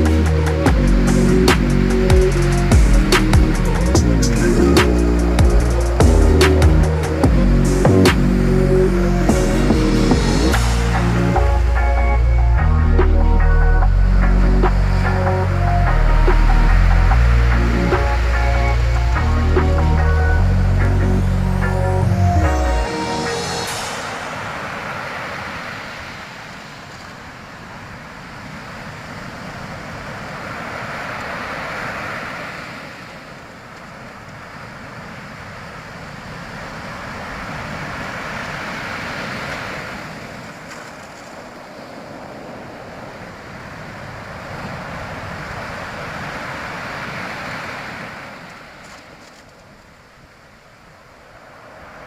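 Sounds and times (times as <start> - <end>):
ocean waves washing in: 0.0 - 52.0.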